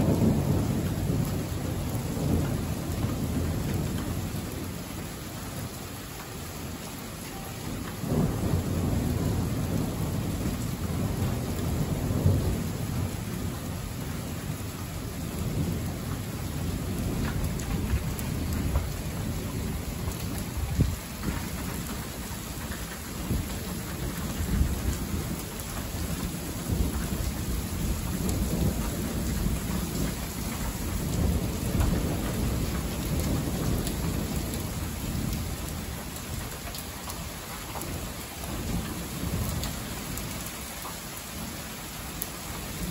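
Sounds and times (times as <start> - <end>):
thunder rumbling: 0.0 - 5.1, 6.8 - 41.6
heavy rain: 0.0 - 42.9.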